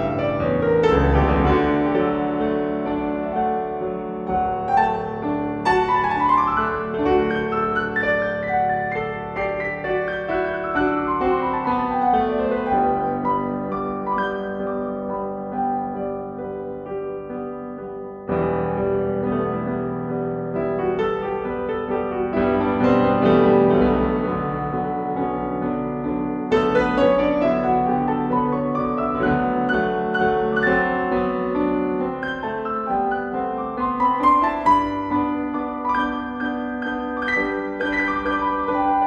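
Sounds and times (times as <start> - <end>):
classical piano music: 0.0 - 39.0.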